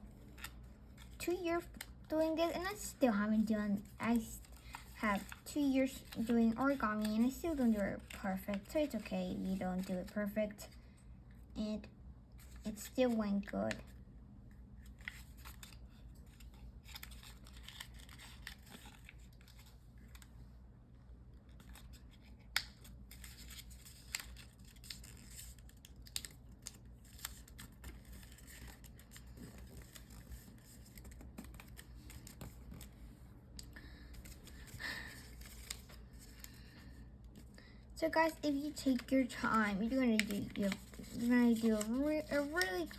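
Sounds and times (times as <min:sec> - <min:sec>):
paper rustling and crinkling: 0:00.0 - 0:10.8, 0:14.8 - 0:20.3, 0:21.4 - 0:33.2, 0:33.9 - 0:42.9
low steady hum: 0:00.0 - 0:42.9
small paper clicks: 0:00.2 - 0:02.7, 0:03.8 - 0:10.2, 0:14.8 - 0:20.3, 0:21.5 - 0:33.0, 0:33.6 - 0:37.4, 0:38.0 - 0:42.9.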